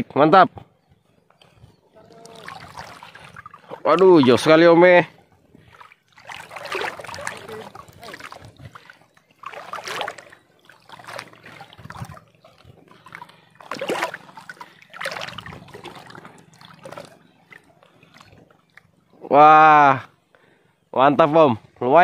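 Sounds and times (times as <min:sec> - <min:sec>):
seawater sloshing from wading: 0:01.0 - 0:19.4.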